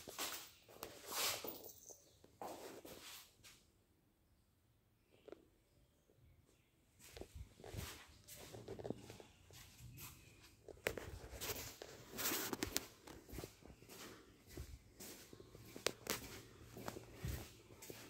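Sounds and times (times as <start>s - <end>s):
footsteps on tiled floor: 0.0s - 3.6s, 7.0s - 18.0s.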